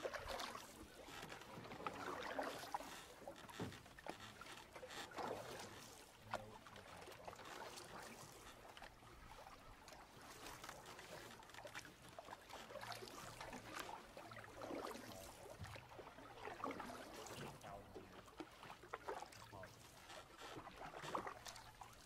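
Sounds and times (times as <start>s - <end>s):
water splashing off paddle: 0.0s - 22.0s.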